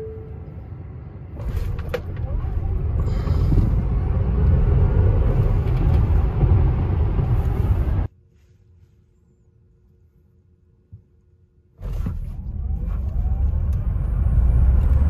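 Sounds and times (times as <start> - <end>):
road and tyre rumble in car: 0.0 - 9.1, 10.8 - 15.0.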